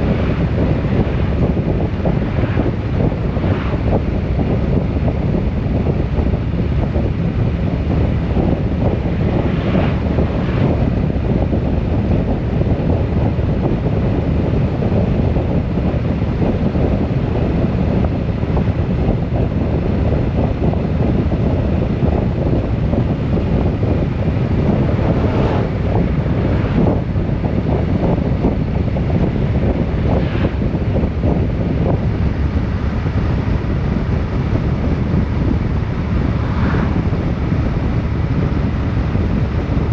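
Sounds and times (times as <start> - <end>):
low road and engine rumble: 0.0 - 39.9
wind rushing over microphone: 0.0 - 39.9.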